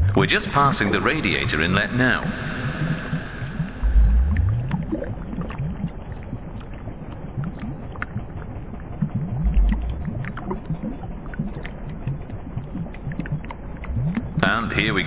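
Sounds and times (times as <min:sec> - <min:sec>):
low rumble: 0:00.0 - 0:15.0
underwater bubbling in a pipe: 0:00.0 - 0:15.0.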